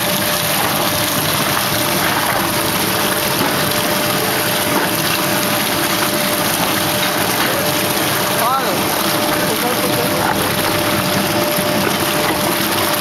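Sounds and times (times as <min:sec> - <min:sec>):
machinery rushing noise: 0:00.0 - 0:13.0.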